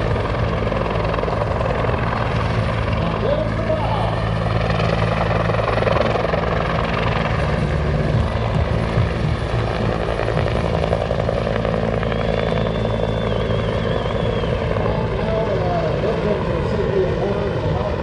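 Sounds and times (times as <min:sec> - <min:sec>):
helicopter hovering: 0:00.0 - 0:18.0.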